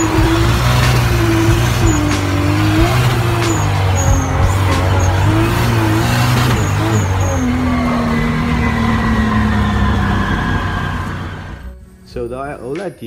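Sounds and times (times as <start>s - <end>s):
car engine running hard: 0.0s - 12.0s
road and wind noise: 0.0s - 13.0s.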